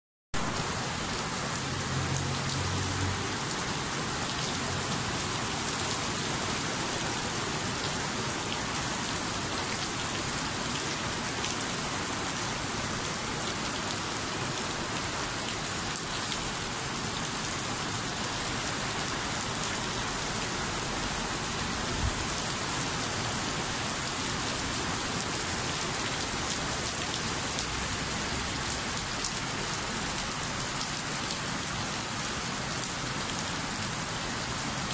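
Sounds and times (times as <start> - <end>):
steady rainfall: 0.4 - 34.9.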